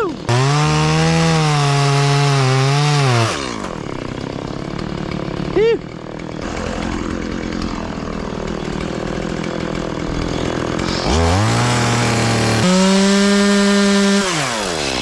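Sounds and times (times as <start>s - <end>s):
chainsaw idling and revving: 0.0s - 15.0s.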